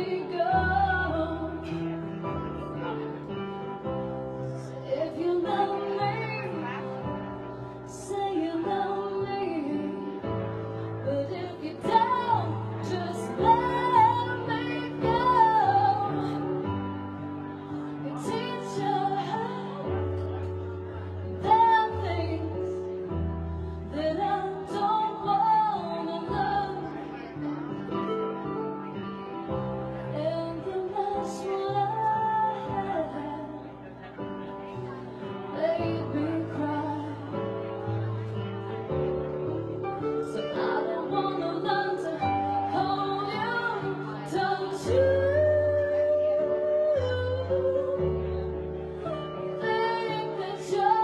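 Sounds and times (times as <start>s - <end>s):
woman singing a ballad: 0.0s - 3.4s, 4.4s - 27.6s, 30.0s - 34.7s, 35.3s - 37.5s, 39.9s - 51.0s.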